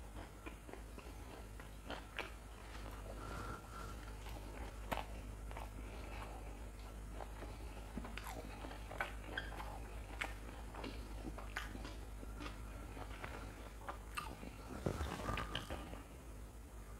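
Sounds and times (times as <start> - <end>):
chewing crunchy food: 0.0 - 16.2.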